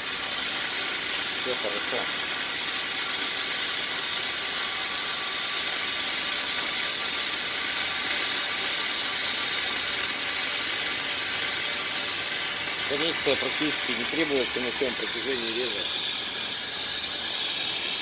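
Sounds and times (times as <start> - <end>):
cutting torch hissing: 0.0 - 18.0.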